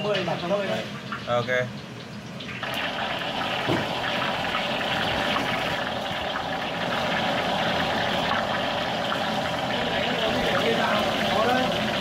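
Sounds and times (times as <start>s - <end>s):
oil sizzling and bubbling: 0.0s - 12.0s.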